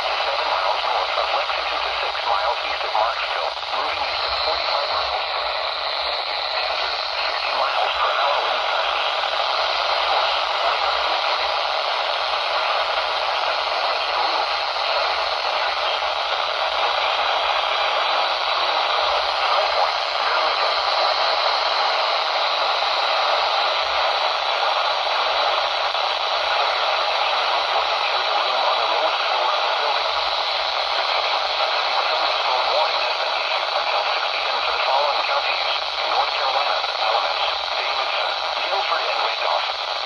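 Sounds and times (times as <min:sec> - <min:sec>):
radio static hiss: 0:00.0 - 0:40.0.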